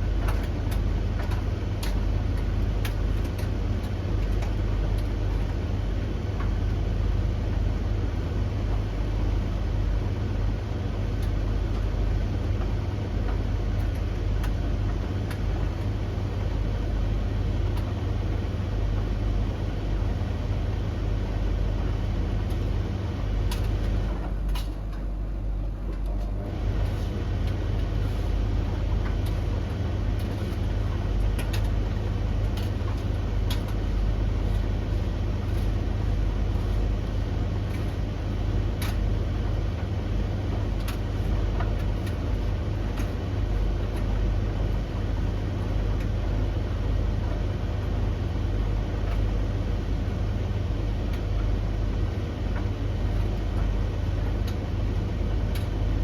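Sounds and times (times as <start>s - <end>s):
tumble dryers rumbling: 0.0s - 56.0s.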